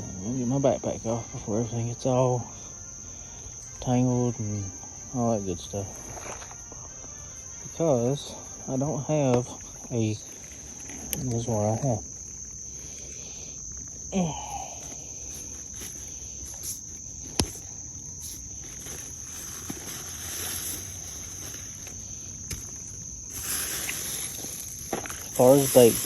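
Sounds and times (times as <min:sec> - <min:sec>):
high-pitched insect trilling: 0:00.0 - 0:26.0.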